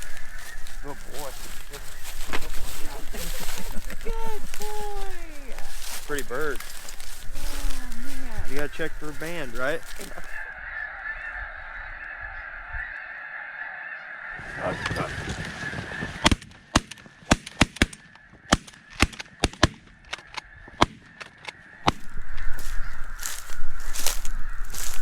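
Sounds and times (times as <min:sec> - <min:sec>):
geese honking: 0:00.0 - 0:25.0.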